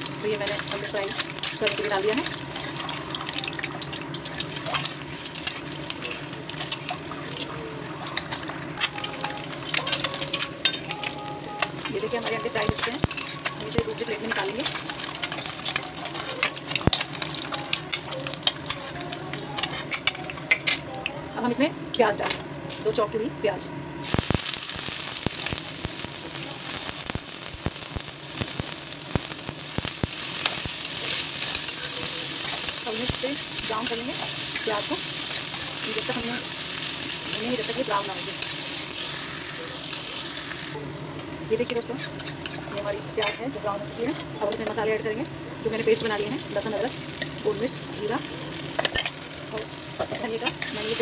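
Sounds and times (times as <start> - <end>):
eggs sizzling in oil: 0.0 - 20.8, 24.0 - 51.0
crackles and pops of frying: 0.0 - 20.9, 24.0 - 51.0.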